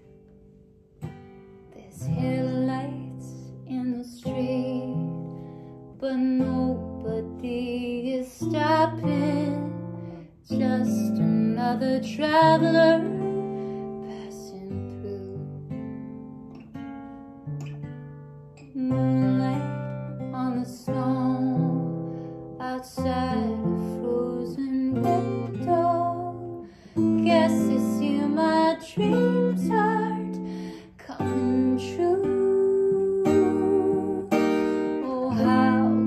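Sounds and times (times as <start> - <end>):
woman singing ballad: 1.8 - 15.8, 18.6 - 36.0.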